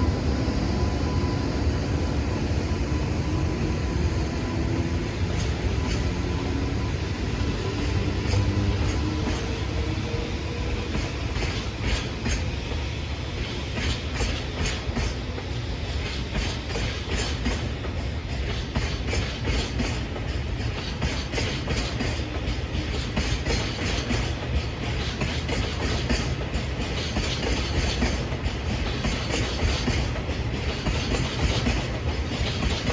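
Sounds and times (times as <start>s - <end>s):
train rumble: 0.0s - 32.9s
train wheels clacking over joints: 3.2s - 32.9s.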